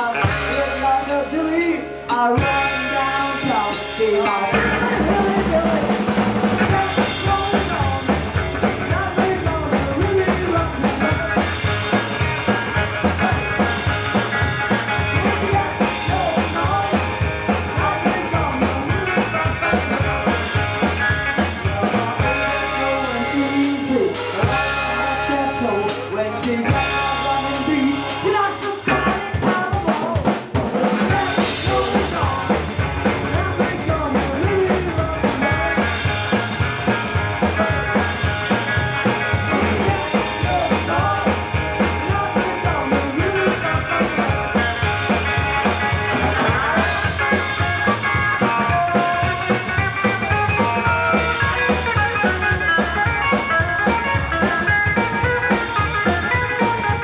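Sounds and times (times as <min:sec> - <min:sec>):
slapped upright bass: 0:00.0 - 0:29.6, 0:31.0 - 0:57.0
rockabilly band playing: 0:00.0 - 0:57.0.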